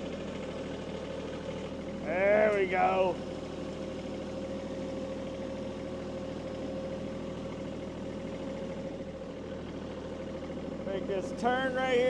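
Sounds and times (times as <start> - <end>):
constant whine: 0.0 - 12.0
tractor diesel engine running: 0.0 - 12.0.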